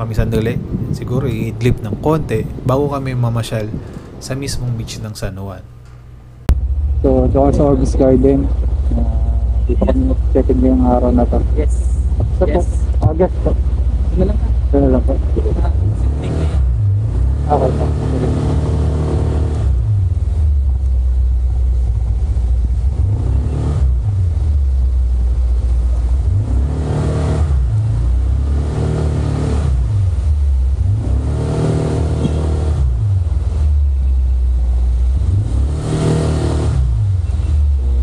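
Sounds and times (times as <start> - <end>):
scooter engine revving: 6.5 - 38.0.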